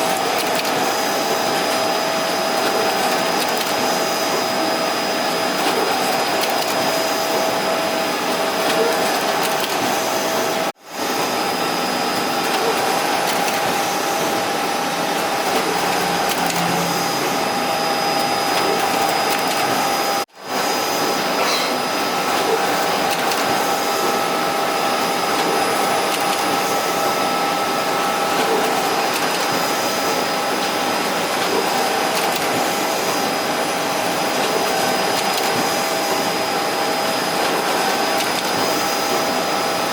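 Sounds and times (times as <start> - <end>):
printer fans and paper transport whirring: 0.0 - 39.9.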